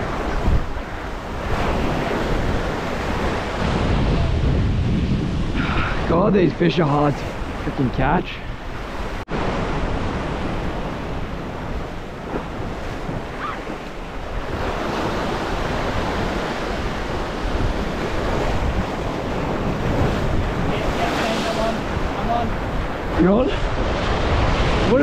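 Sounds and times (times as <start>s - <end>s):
ocean surf washing against rocks: 0.0s - 25.0s
wind buffeting microphone: 0.0s - 25.0s.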